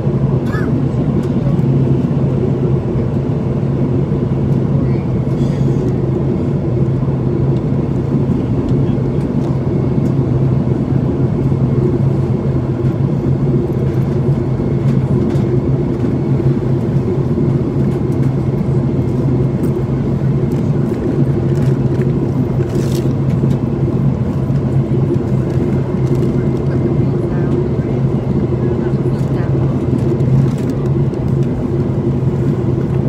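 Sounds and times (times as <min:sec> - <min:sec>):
airplane engines droning: 0:00.0 - 0:33.0.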